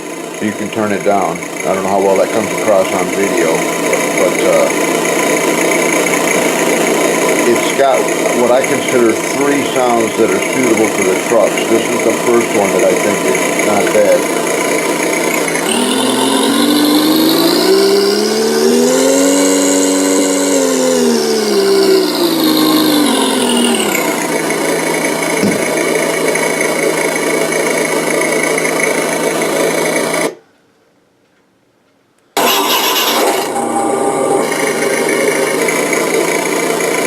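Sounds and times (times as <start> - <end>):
simulated truck engine from speaker: 0.0 - 30.4, 32.4 - 37.0.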